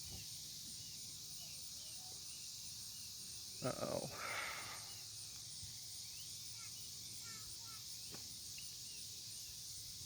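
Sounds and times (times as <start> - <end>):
bird chirps: 0.0 - 10.0
insects droning: 0.0 - 10.0.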